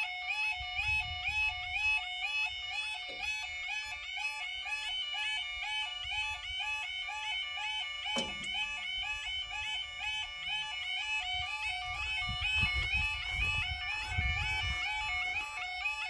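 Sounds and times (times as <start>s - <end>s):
level crossing alarm warble: 0.0s - 16.0s.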